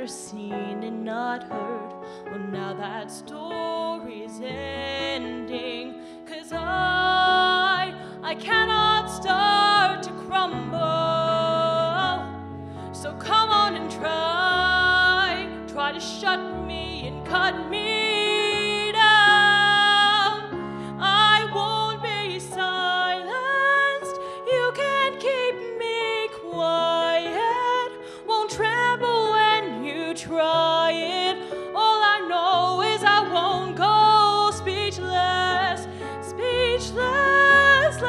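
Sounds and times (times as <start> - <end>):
woman singing into microphone: 0.0 - 38.0.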